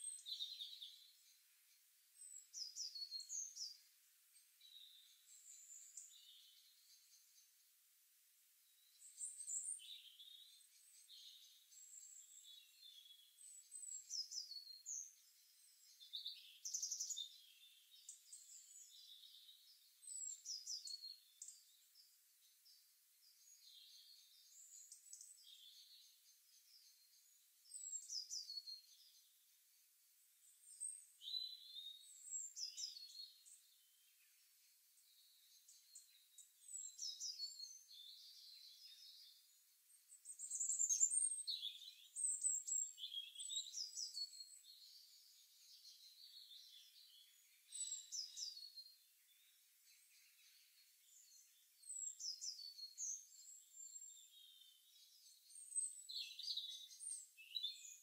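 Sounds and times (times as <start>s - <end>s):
songbirds chirping faintly: 0.0s - 58.0s.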